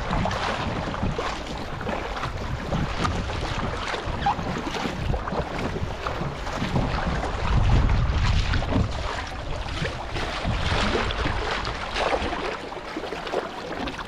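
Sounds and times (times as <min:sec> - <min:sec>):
wind buffeting microphone: 0:00.0 - 0:12.6
paddle strokes splashing: 0:00.0 - 0:14.0
water washing past hull: 0:00.0 - 0:14.0.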